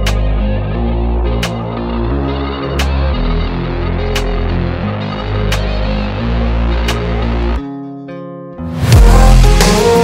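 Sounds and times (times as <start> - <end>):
low bass notes: 0.0 - 7.6, 8.8 - 10.0
electronic music: 0.0 - 10.0.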